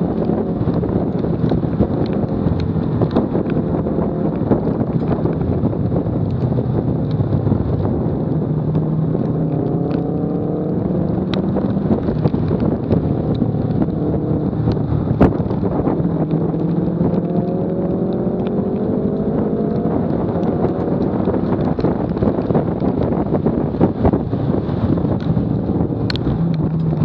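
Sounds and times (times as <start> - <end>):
car engine revving: 0.0 - 27.0
wind and road noise: 0.0 - 27.0.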